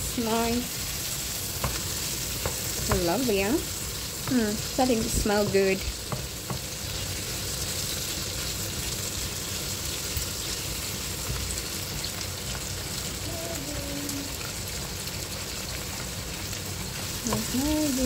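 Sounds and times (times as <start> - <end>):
meat and vegetables sizzling: 0.0 - 18.0.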